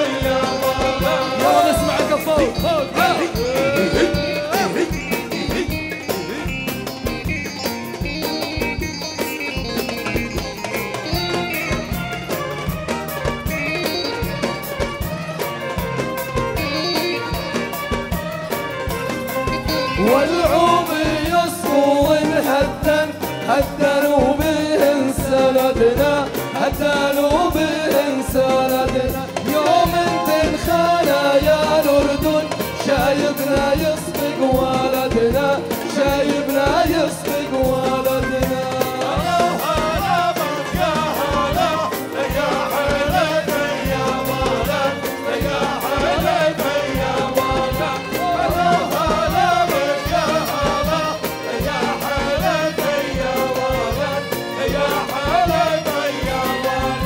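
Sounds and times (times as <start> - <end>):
man singing into microphone: 0.0 - 9.1, 13.5 - 14.4, 16.6 - 17.5, 19.8 - 57.0
band playing steady beat: 0.0 - 57.0.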